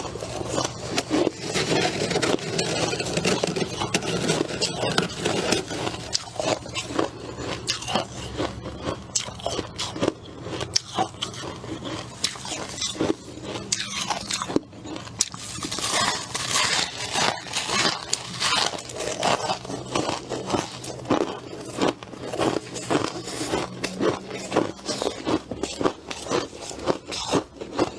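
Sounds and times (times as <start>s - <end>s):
crunching of frost being chewed: 0.0s - 27.9s.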